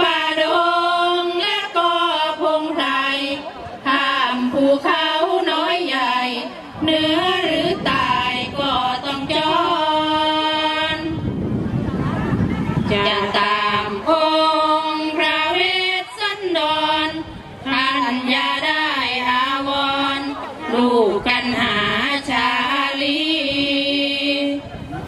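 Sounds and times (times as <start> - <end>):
woman chanting with held notes: 0.0 - 11.2, 12.8 - 24.8.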